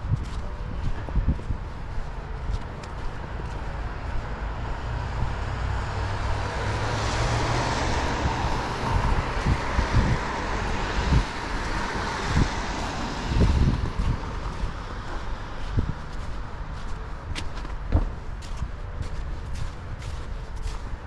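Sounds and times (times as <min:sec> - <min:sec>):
vehicle passing: 0:00.0 - 0:21.0.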